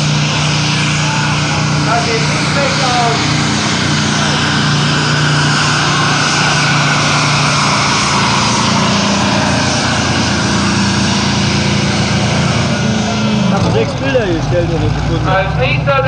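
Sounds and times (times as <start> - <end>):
tractor engine at high revs: 0.0 - 16.0.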